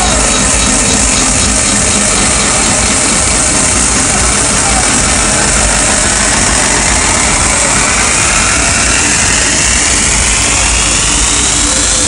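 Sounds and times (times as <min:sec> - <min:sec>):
loud hardcore techno: 0:00.0 - 0:12.0
sweep rising in pitch: 0:00.0 - 0:12.0.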